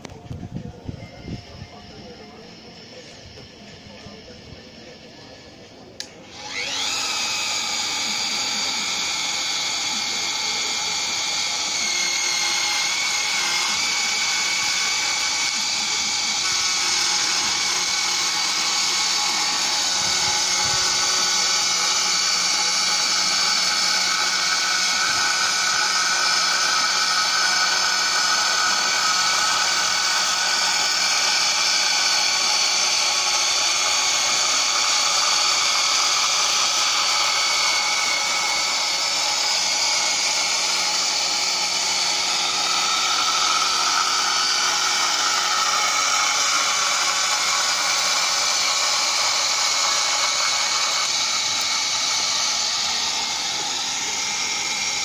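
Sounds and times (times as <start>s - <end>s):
pipe cutter motor whining: 0.0s - 55.0s.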